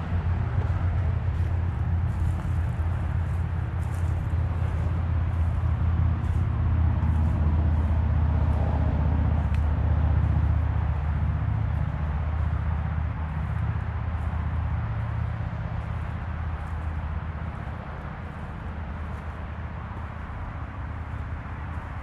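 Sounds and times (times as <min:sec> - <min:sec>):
faint light ticks and rustles: 0:00.0 - 0:08.7, 0:09.3 - 0:22.0
steady low rumble: 0:00.0 - 0:22.0.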